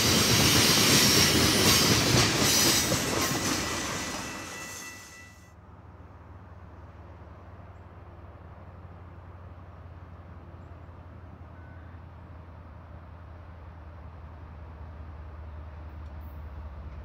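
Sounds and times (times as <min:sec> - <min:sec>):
distant diesel train rumble: 0:00.0 - 0:17.0.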